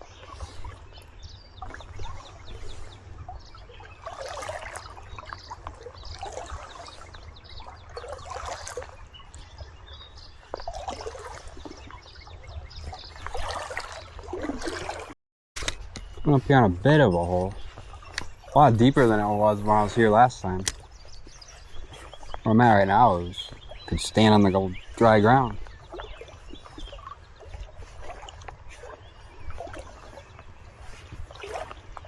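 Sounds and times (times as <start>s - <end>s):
river water trickling and splashing: 0.0s - 32.0s.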